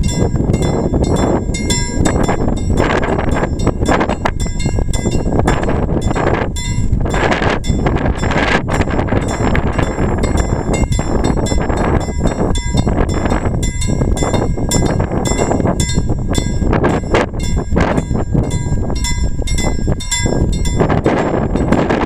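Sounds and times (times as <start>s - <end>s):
level crossing warning bell: 0.0s - 22.0s
wind buffeting microphone: 0.0s - 22.0s.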